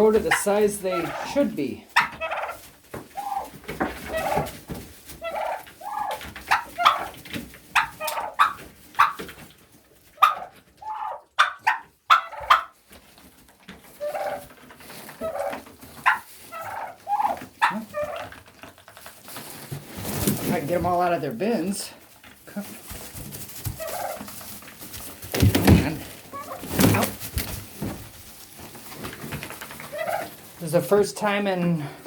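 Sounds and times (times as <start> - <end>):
turkeys calling: 0.0 - 9.4, 10.2 - 21.9, 22.7 - 32.0.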